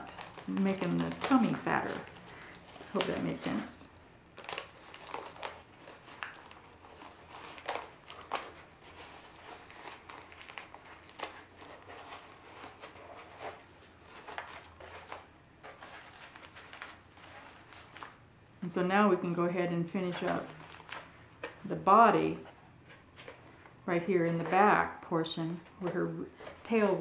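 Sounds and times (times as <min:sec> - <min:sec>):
paper crinkling and rustling: 0:00.0 - 0:18.2, 0:19.9 - 0:27.0.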